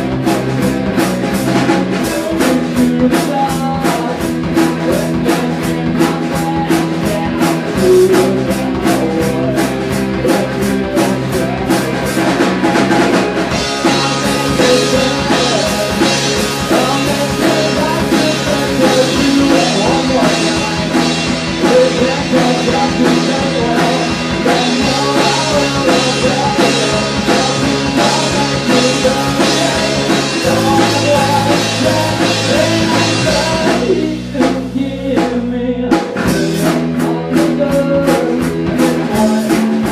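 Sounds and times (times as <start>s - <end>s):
drum kit with cymbals: 0.0s - 39.9s
electric bass: 0.0s - 39.9s
electric guitar: 0.0s - 39.9s
person singing: 0.0s - 39.9s.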